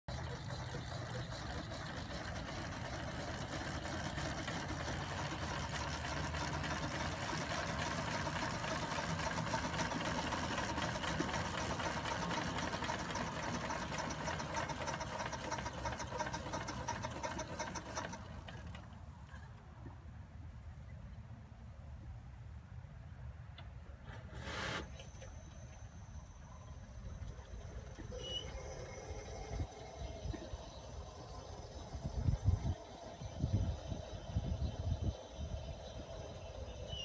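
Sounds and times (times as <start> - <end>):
steam engine chuffing: 0.0 - 19.4, 26.8 - 37.0.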